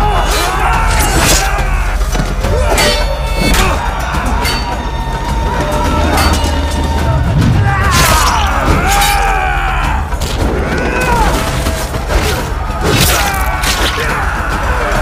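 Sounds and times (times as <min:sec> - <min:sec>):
men shouting and crying out: 0:00.0 - 0:15.0.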